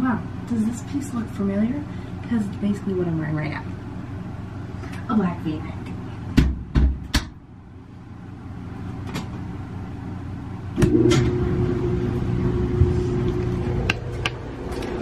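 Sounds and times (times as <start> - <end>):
laundry machine motor hum: 0.0 - 15.0.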